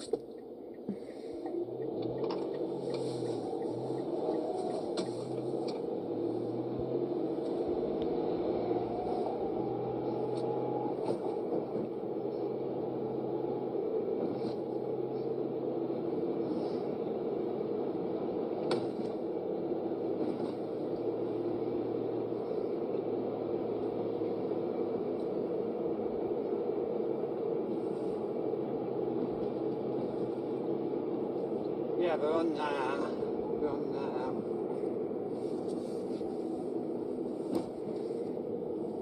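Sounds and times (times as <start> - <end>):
car engine and road hum: 0.0 - 39.0.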